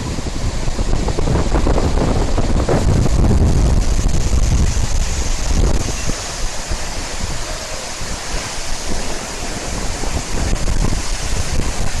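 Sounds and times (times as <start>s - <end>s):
waterfall rushing: 0.0s - 12.0s
wind buffeting the microphone: 0.0s - 12.0s.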